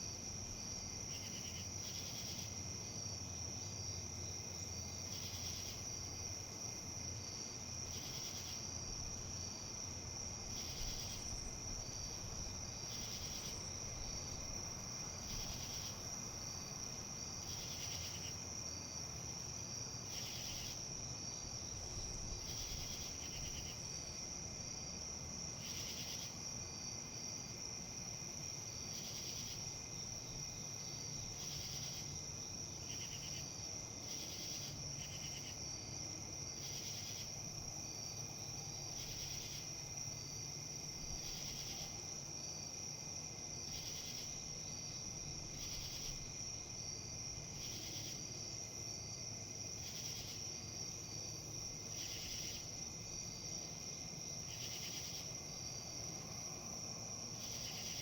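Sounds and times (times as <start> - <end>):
faint low background noise: 0.0 - 58.0
insects trilling: 0.0 - 58.0.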